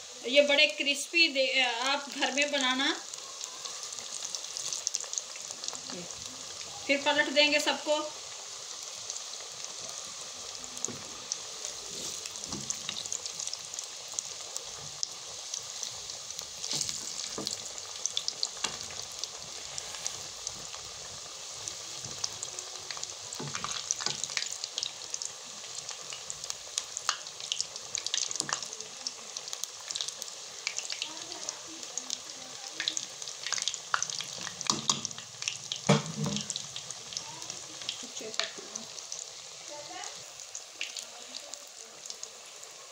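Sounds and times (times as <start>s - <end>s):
food deep-frying in oil: 0.0s - 42.9s.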